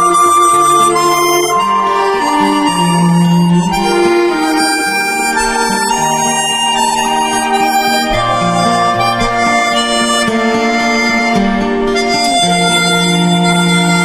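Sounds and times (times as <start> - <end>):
instrumental chord music: 0.0 - 14.0.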